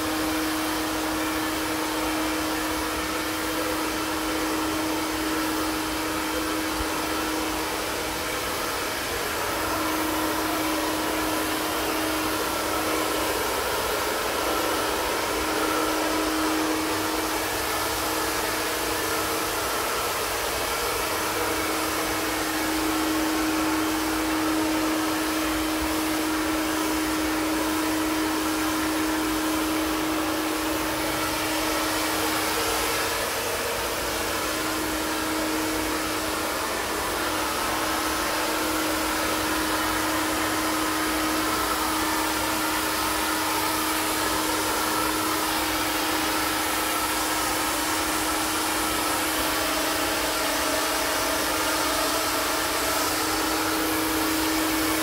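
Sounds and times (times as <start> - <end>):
fan blowing air: 0.0 - 55.0.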